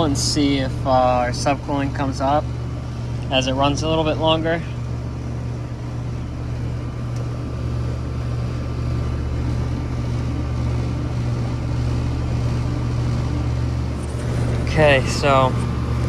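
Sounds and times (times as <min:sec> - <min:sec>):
air conditioning units humming: 0:00.0 - 0:16.0.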